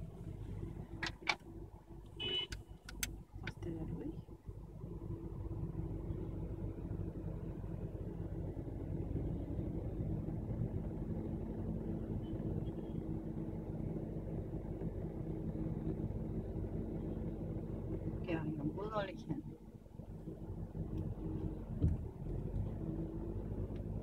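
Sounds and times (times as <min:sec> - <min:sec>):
car engine running low: 0:00.0 - 0:24.0
low traffic hum: 0:00.0 - 0:24.0.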